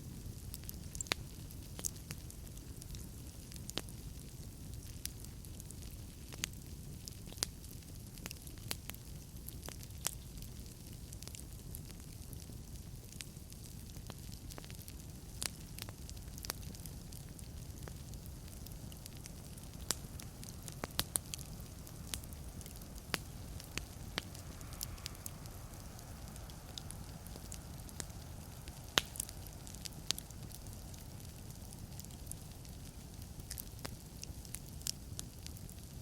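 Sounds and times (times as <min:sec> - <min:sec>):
logs crackling and popping: 0:00.0 - 0:36.0
soft hiss: 0:00.0 - 0:36.0
wood fire burning: 0:00.0 - 0:36.0.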